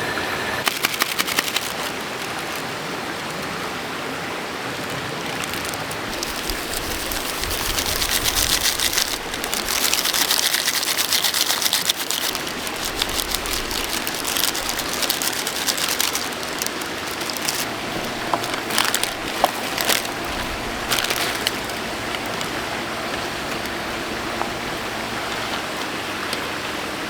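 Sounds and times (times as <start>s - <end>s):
rain falling: 0.6s - 27.0s.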